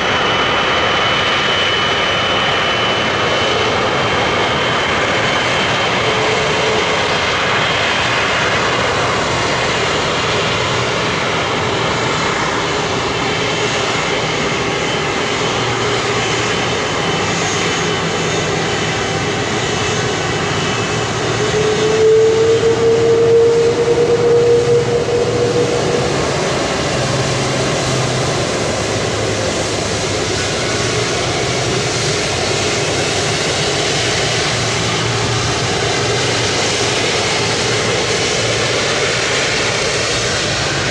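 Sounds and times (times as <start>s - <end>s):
jet engines running: 0.0s - 40.9s
engine hum: 0.1s - 40.9s.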